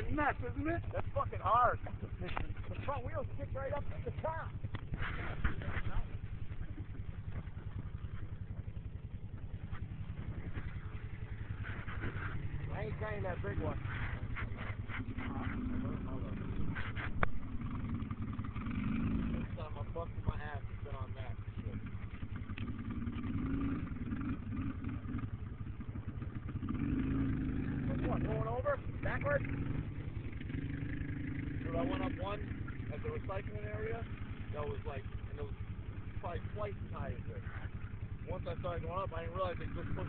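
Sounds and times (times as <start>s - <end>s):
atv engine running steadily: 0.0s - 40.0s.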